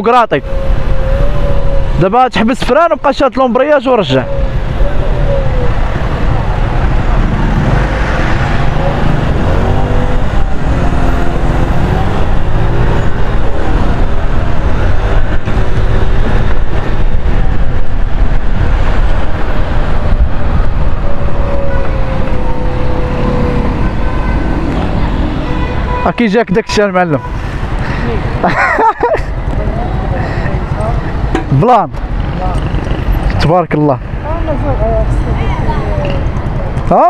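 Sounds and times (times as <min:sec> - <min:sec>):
surrounding vehicle engines: 0:00.0 - 0:37.0
wind and road noise rumble: 0:00.0 - 0:37.0.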